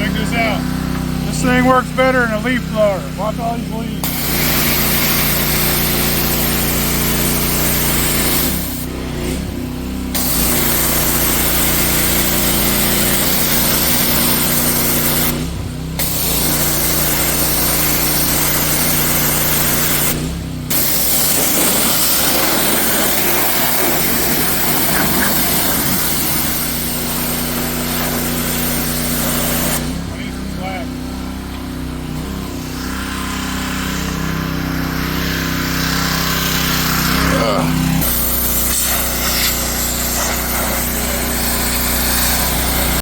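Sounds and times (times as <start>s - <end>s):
pressure washer engine running: 0.0s - 43.0s
high-pressure water spray hiss: 4.0s - 9.4s, 10.1s - 30.0s, 32.5s - 43.0s.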